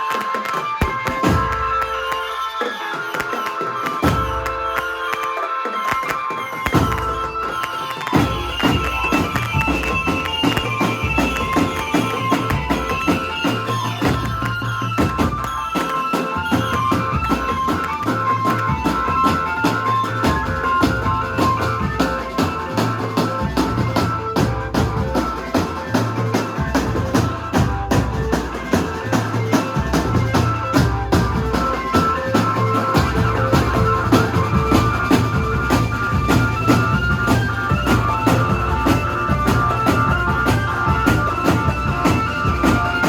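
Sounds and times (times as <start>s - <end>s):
drum kit beat: 0.0s - 43.0s
sustained melody: 0.0s - 43.0s.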